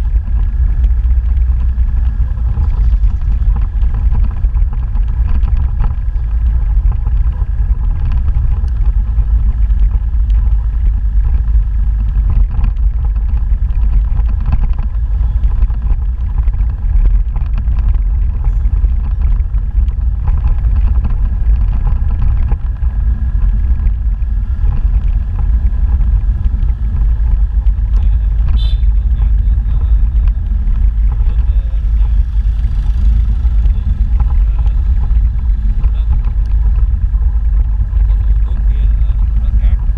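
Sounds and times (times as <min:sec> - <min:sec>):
motorbike engine drone: 0:00.0 - 0:39.9
wind rumble on microphone: 0:00.0 - 0:39.9.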